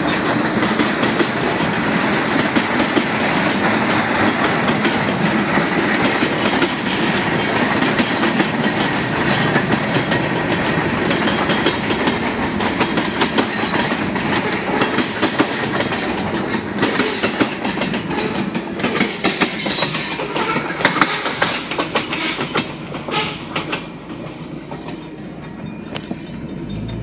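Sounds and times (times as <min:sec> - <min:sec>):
freight train wheels clacking: 0:00.0 - 0:27.0.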